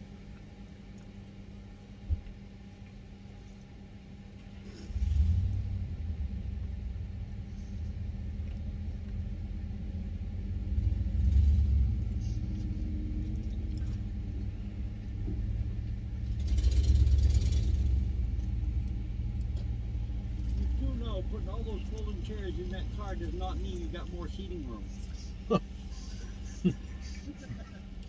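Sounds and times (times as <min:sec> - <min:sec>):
truck engine idling: 0:04.9 - 0:28.0.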